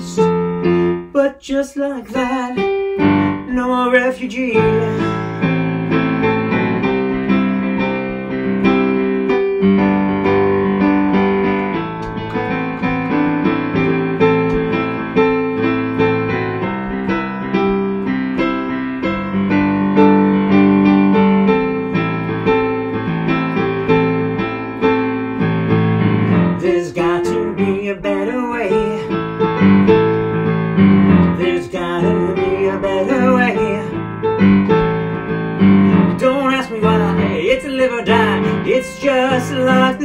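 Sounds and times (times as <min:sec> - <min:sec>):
piano chords with melody: 0:00.0 - 0:40.0.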